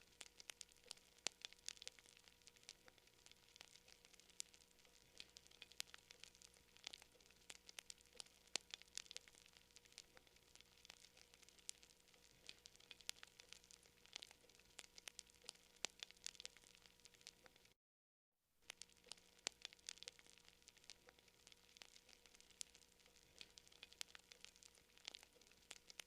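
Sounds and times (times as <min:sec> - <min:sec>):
campfire crackling: 0:00.0 - 0:17.8, 0:18.6 - 0:26.0
sharp pops and snaps: 0:00.0 - 0:17.8, 0:18.6 - 0:26.0
soft hiss: 0:00.0 - 0:17.8, 0:18.6 - 0:26.0.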